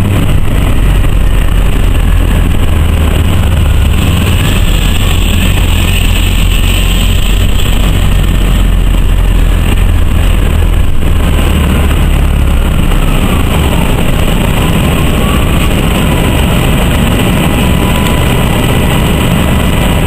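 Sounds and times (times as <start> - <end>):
bus engine low rumble: 0.0 - 20.0
road and body noise: 0.0 - 20.0.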